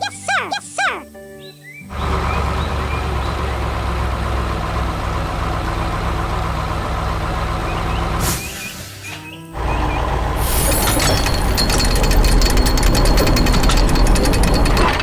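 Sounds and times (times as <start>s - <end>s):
heavy truck engine running: 1.9s - 15.0s.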